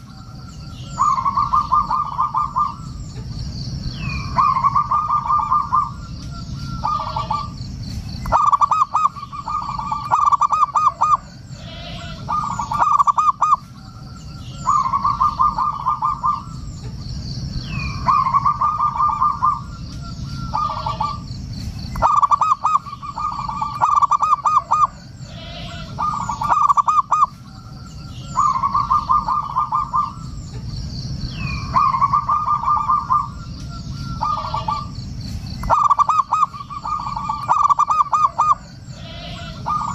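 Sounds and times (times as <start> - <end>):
dove cooing: 0.0 - 3.2, 4.0 - 7.6, 8.2 - 17.0, 17.6 - 21.3, 21.9 - 30.6, 31.4 - 35.0, 35.6 - 39.9.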